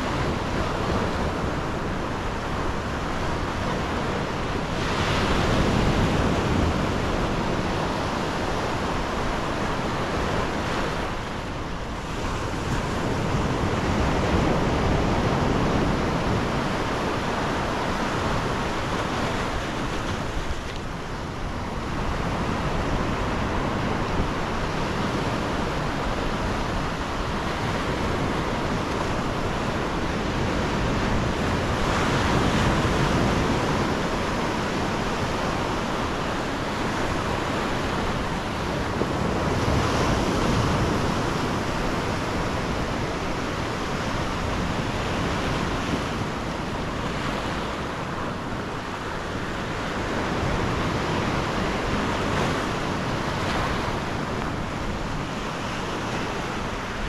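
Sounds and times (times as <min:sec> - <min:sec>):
surf breaking on a beach: 0:00.0 - 0:57.0
wind on microphone: 0:00.0 - 0:57.0.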